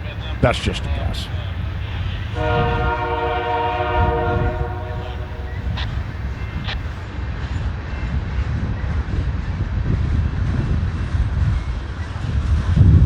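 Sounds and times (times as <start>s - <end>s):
freight train rumbling: 0.0s - 13.0s
wind buffeting microphone: 0.1s - 13.0s.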